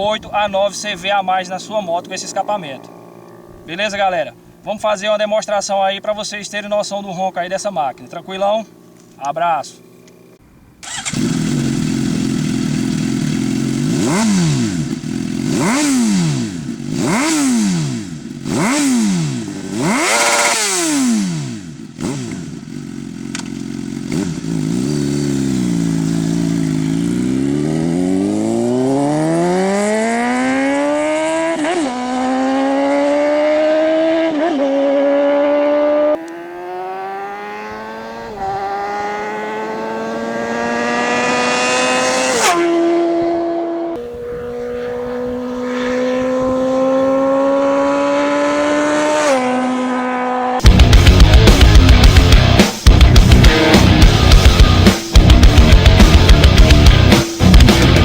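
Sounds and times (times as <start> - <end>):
motorcycle engine revving: 1.5 - 4.7, 8.6 - 9.2, 9.8 - 58.0
motorcycle accelerating through gears: 2.0 - 3.7, 9.8 - 58.0.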